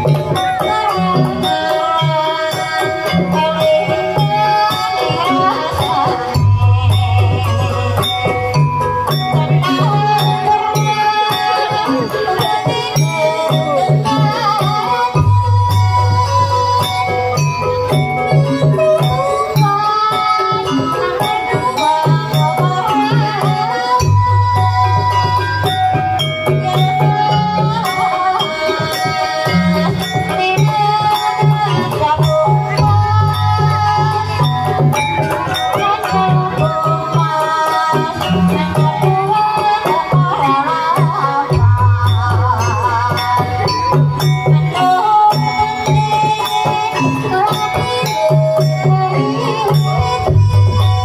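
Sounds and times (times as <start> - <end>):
gamelan music: 0.0 - 51.0.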